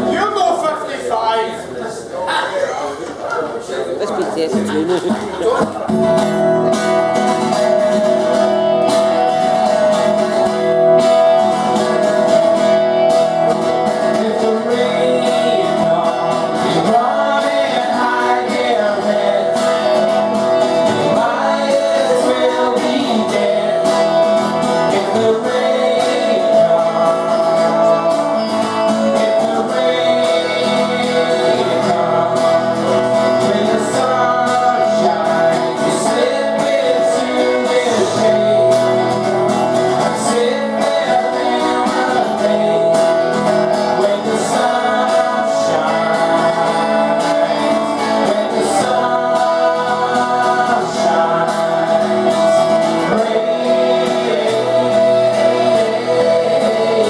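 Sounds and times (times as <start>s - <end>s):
acoustic guitars strummed and picked: 0.0s - 1.6s, 3.0s - 57.0s
person singing: 6.4s - 57.0s.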